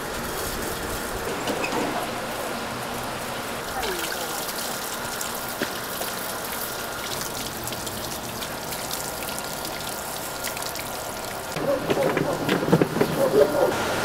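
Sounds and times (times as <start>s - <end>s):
hose water splashing on wood: 0.0s - 14.0s
water running onto concrete: 2.0s - 13.7s.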